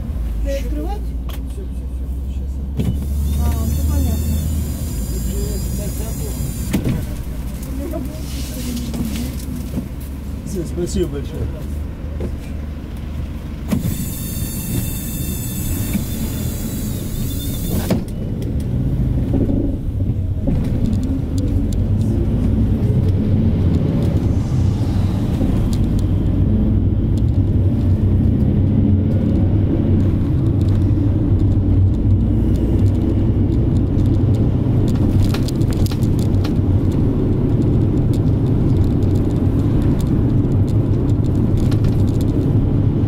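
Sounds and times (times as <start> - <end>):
minibus engine and road noise: 0.0 - 43.0.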